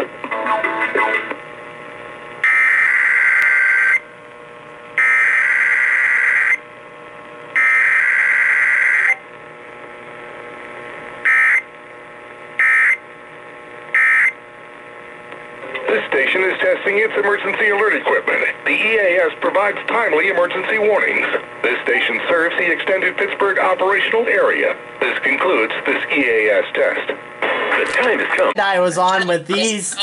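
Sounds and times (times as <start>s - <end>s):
harsh buzzing data tones: 1.9s - 6.8s, 7.5s - 9.3s, 11.2s - 28.6s.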